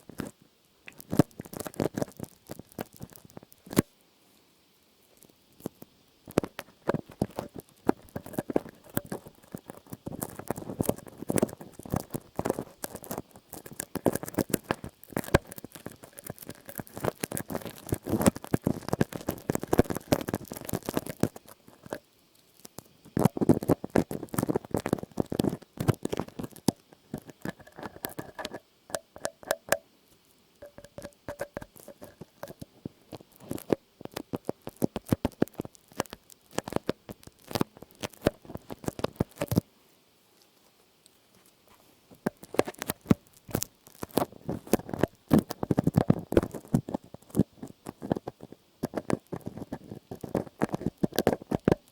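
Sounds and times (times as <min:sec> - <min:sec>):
crackling and clicking: 0:00.0 - 0:04.0, 0:05.0 - 0:39.7, 0:40.4 - 0:51.9
soft rustle: 0:00.0 - 0:51.9.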